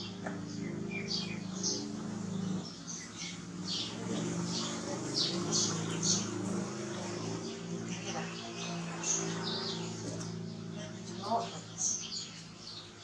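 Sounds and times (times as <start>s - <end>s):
faint low voices: 0.2s - 13.0s.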